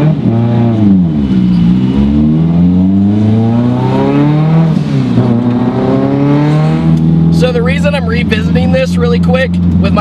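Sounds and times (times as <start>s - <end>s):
turbocharged car engine revving: 0.0s - 10.0s.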